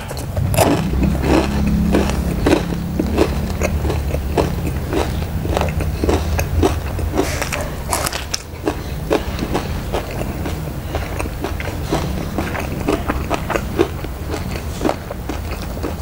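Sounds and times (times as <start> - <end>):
biting into chili: 0.0 - 16.0
crunchy chewing: 0.0 - 16.0
low steady hum: 0.0 - 16.0.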